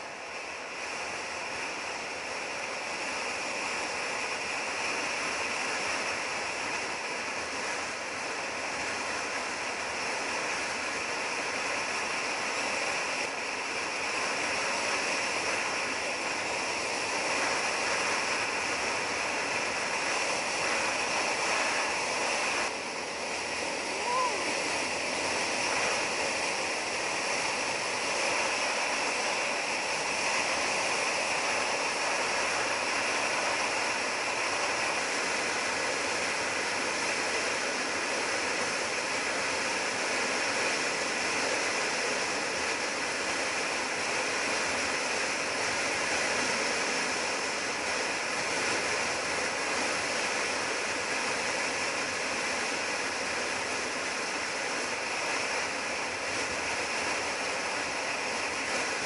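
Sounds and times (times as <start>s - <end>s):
wind rush: 0.0s - 52.2s.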